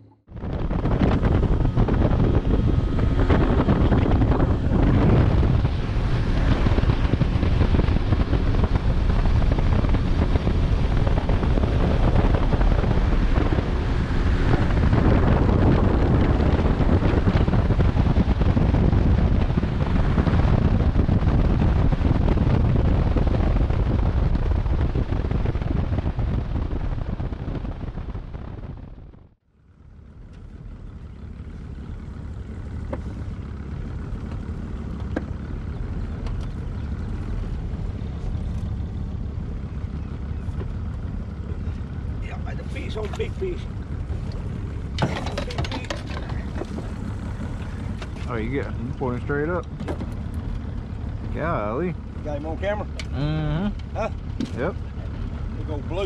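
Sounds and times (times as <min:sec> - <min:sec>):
outboard motor running: 0:00.0 - 0:24.1, 0:29.4 - 0:56.0
wind buffeting microphone: 0:00.0 - 0:29.4, 0:30.4 - 0:56.0.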